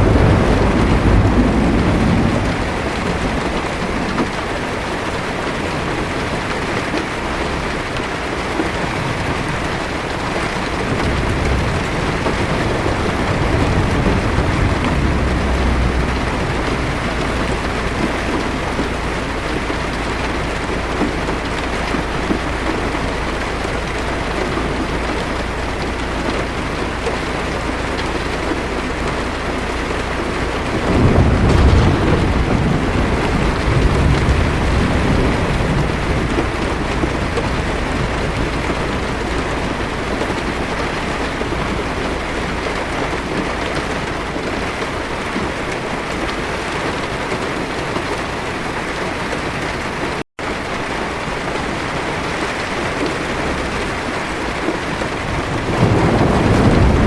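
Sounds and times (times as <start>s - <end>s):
heavy rain on car: 0.0s - 57.0s
thunder rumbling: 0.0s - 57.0s.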